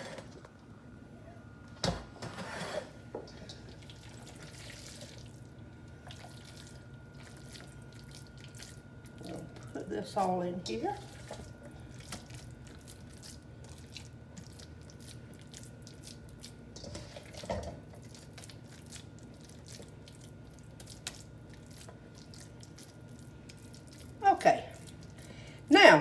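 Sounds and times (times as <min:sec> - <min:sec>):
hands squishing meat mixture: 0:03.7 - 0:25.5.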